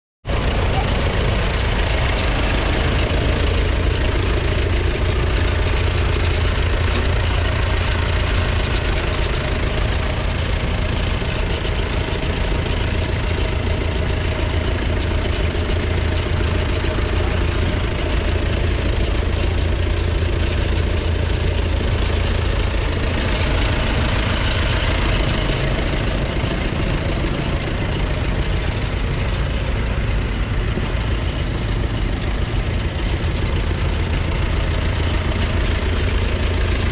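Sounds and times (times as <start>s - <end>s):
tractor diesel engine idling: 0.2s - 36.9s.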